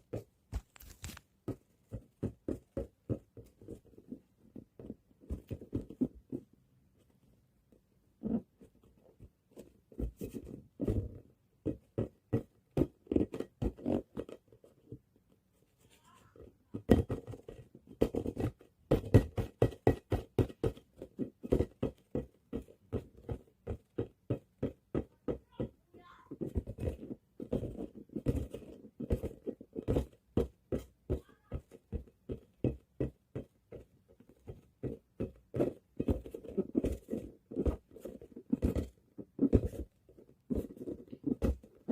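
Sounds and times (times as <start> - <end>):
ball bouncing: 0.0 - 6.5, 8.2 - 14.7, 16.0 - 41.9.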